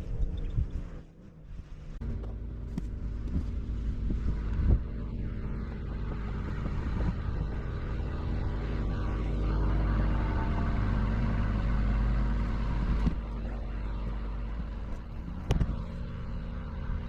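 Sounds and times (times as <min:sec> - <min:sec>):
excavator diesel engine running: 0:02.0 - 0:17.0.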